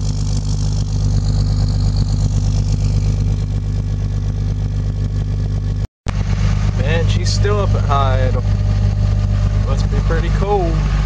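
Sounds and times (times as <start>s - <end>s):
diesel engine high idle: 0.0s - 11.0s.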